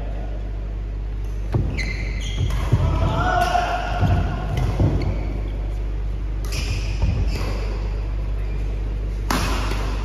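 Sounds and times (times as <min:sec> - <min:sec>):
sports hall hum: 0:00.0 - 0:10.0.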